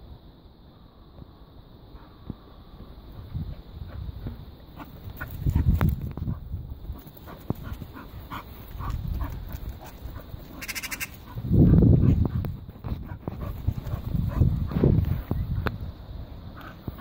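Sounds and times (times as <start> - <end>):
wind buffeting microphone: 2.2 - 17.0.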